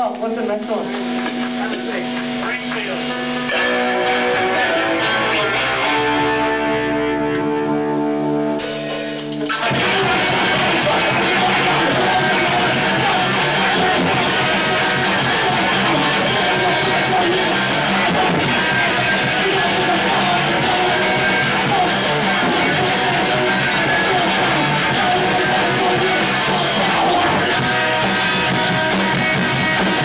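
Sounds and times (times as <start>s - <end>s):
punk band playing live: 0.0s - 30.0s
electric guitar ringing notes: 0.1s - 30.0s.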